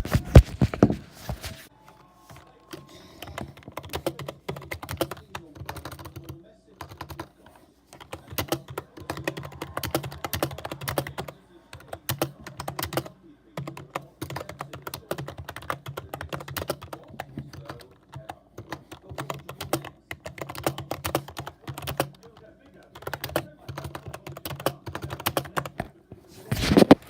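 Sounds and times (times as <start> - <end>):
fast typing on computer keyboard: 2.4 - 25.9.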